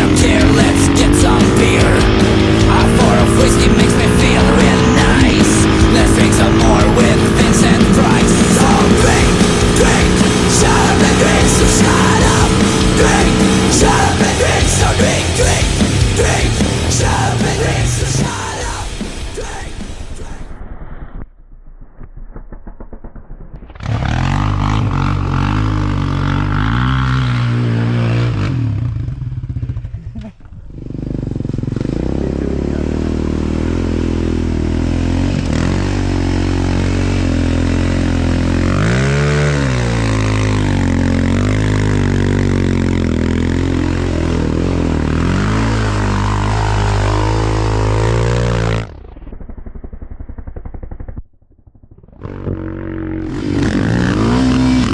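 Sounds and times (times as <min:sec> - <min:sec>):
off-road vehicle engine revving: 0:00.0 - 0:20.4, 0:23.8 - 0:51.0, 0:52.2 - 0:54.9.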